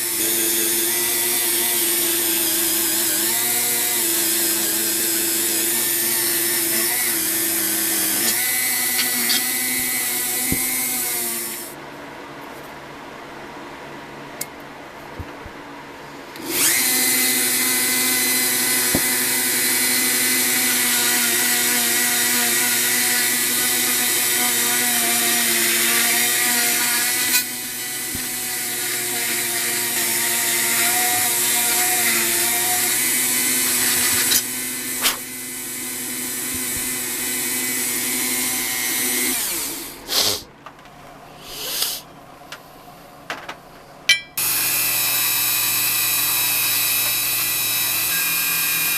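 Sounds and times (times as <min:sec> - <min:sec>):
electric power tool running: 0:00.0 - 0:11.8, 0:16.4 - 0:40.1, 0:44.4 - 0:48.9.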